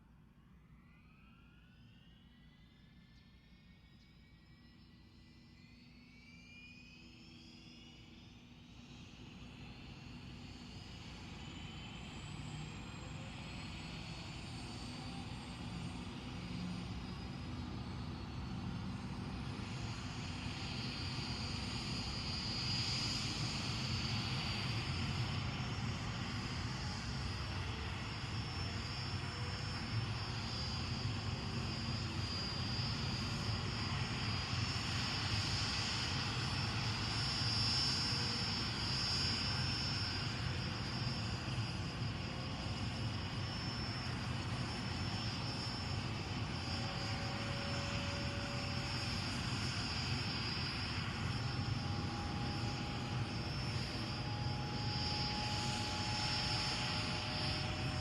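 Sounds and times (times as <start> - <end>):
turbine whine: 0.0 - 58.0
helicopter rotor beat: 10.2 - 58.0.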